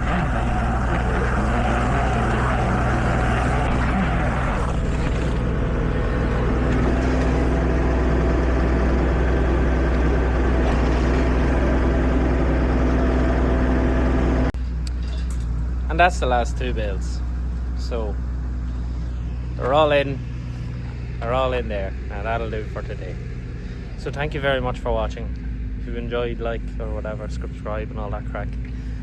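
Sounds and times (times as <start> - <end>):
higher hum: 0.0 - 25.9
tractor engine running: 0.0 - 29.0.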